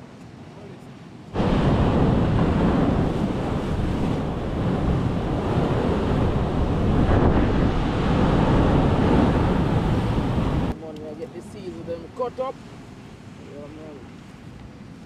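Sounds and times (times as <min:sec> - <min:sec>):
wind buffeting microphone: 0:01.0 - 0:15.0.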